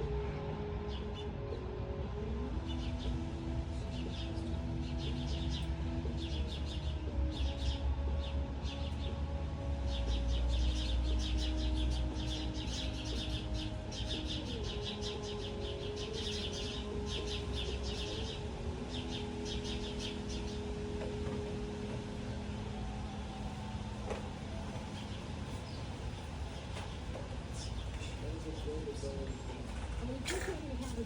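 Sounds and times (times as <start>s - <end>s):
sustained tones shifting in pitch: 0.0s - 28.7s.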